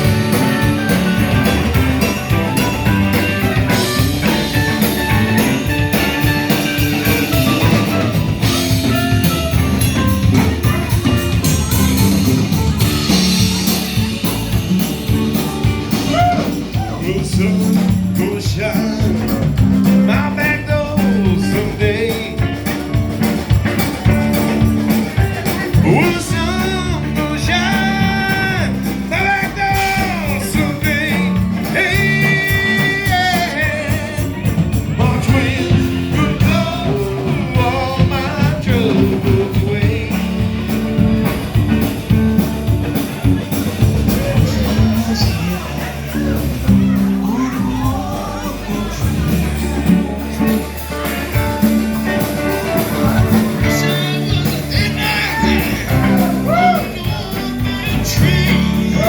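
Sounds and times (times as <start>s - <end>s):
person singing: 0.0s - 41.4s, 43.3s - 59.0s
band playing blues rock: 0.0s - 59.0s
guitar: 0.0s - 59.0s.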